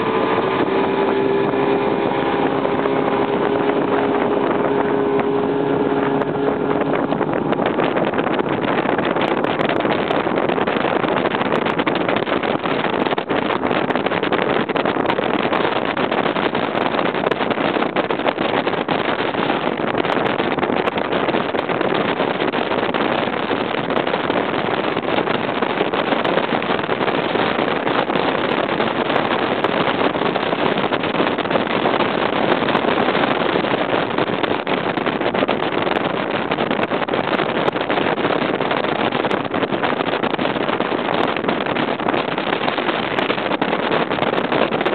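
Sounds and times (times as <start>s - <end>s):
outboard engine: 0.0s - 44.9s
wind and water rushing: 0.0s - 44.9s
wind on microphone: 0.0s - 44.9s.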